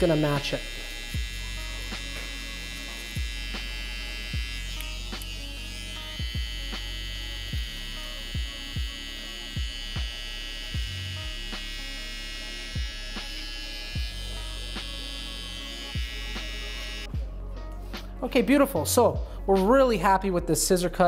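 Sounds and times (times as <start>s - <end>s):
hair trimmer whining: 0.0s - 17.2s
background music with bass drum: 0.0s - 21.0s.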